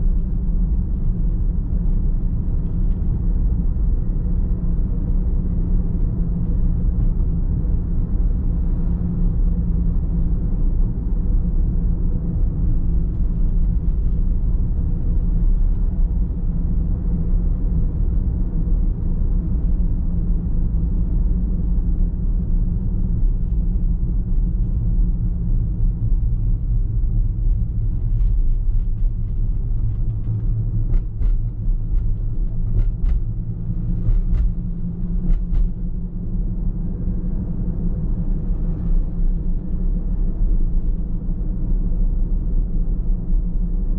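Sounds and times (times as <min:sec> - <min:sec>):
car driving rumble: 0:00.0 - 0:43.9.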